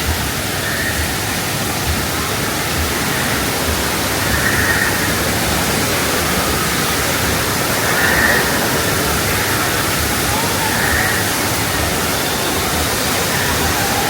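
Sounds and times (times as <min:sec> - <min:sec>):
falling water rushing: 0:00.0 - 0:14.0.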